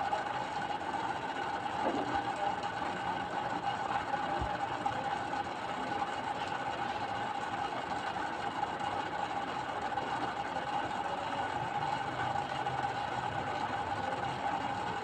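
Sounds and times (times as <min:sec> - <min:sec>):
machine hum with whirring tone: 0:00.0 - 0:15.0.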